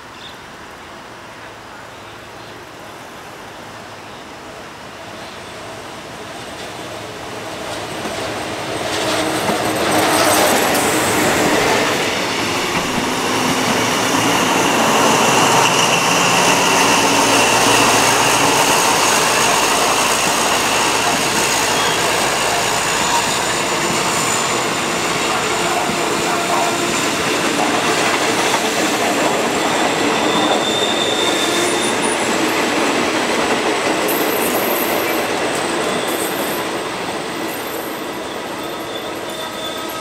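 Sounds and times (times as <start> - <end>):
train wheels squealing on rails: 5.1 - 40.0.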